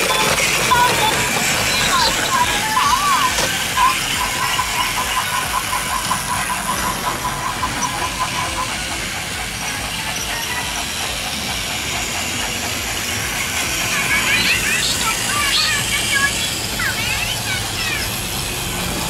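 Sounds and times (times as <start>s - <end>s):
toy train motor whir: 0.0s - 19.0s
wheels rattling on plastic track: 0.0s - 19.0s.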